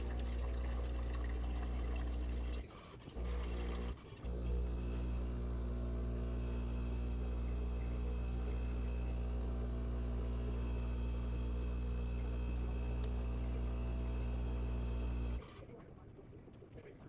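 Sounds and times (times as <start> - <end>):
coffee machine pump humming: 0.0 - 15.6.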